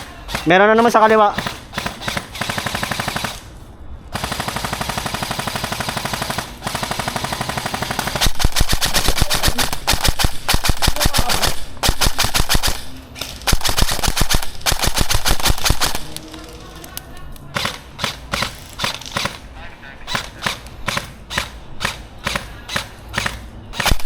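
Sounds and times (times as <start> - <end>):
airsoft guns firing bursts: 0.0 - 3.5, 4.1 - 16.1, 17.5 - 19.5, 20.1 - 24.0.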